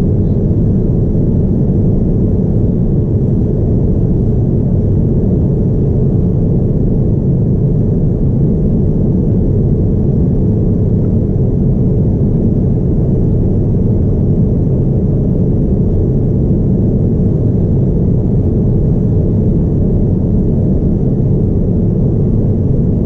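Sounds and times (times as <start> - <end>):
airliner cabin rumble: 0.0 - 23.0
faint high steady whine: 0.0 - 23.0.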